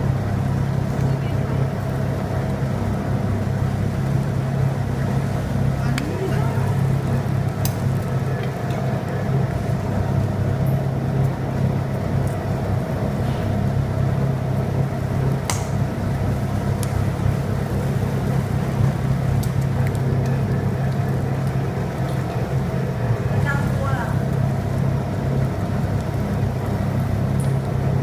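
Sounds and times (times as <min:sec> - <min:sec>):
mixing mill droning: 0:00.0 - 0:28.0.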